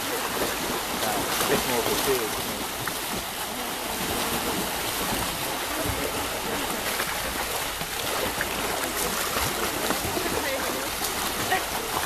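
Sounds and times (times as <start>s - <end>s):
swimmers splashing water: 0.0s - 12.0s.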